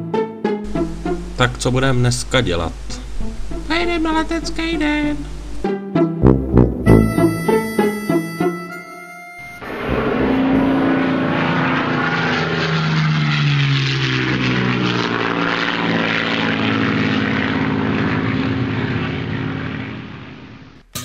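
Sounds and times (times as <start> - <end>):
propeller airplane flying past: 0.0 - 3.7, 4.7 - 20.8.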